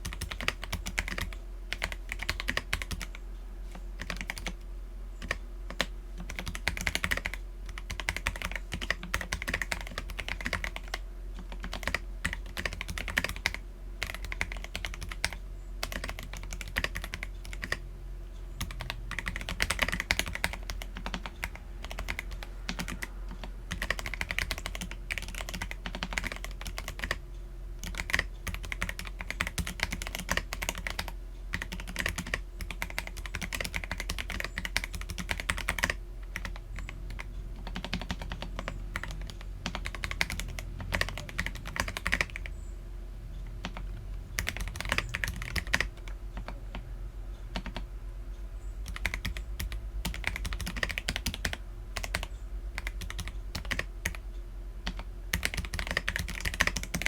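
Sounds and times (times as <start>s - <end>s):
mechanical keyboard typing: 0.0s - 3.2s, 4.0s - 4.6s, 5.2s - 17.8s, 18.6s - 27.2s, 27.8s - 42.6s, 43.4s - 46.9s, 47.5s - 47.9s, 48.8s - 54.2s, 54.8s - 57.0s
faint low hum: 0.0s - 57.0s.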